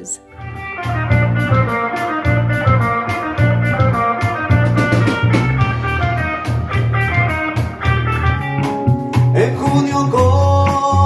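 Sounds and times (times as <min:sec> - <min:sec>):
bass notes: 0:00.0 - 0:11.0
drum kit steady beat: 0:00.0 - 0:11.0
guitar: 0:00.0 - 0:11.0.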